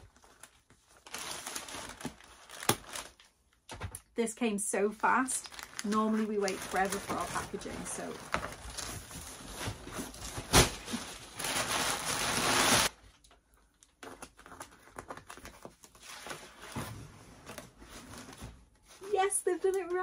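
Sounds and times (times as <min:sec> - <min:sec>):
cardboard and paper rustling: 0:00.0 - 0:04.0, 0:05.0 - 0:12.9, 0:14.0 - 0:20.0.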